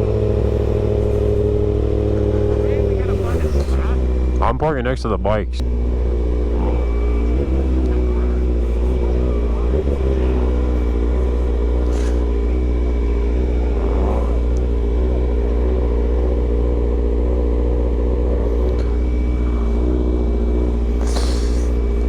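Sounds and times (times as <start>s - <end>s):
vehicle engine running at low revs: 0.0s - 22.0s.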